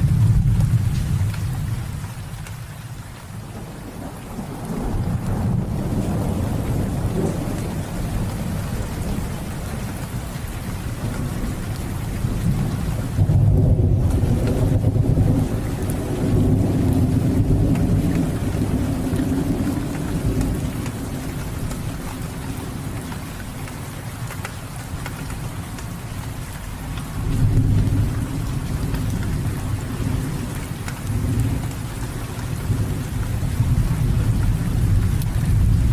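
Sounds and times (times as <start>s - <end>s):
low rolling thunder: 0.0s - 2.4s, 3.3s - 23.0s, 26.8s - 35.9s
steady rain falling: 0.0s - 35.9s.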